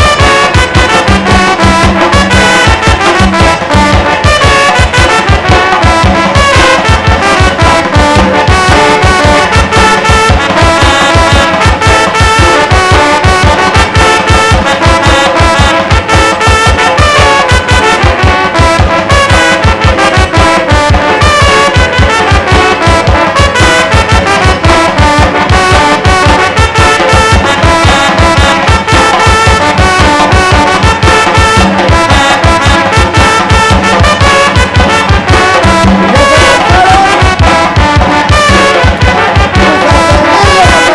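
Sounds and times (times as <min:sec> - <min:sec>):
bass drum beat: 0:00.0 - 0:40.9
brass band playing: 0:00.0 - 0:40.9.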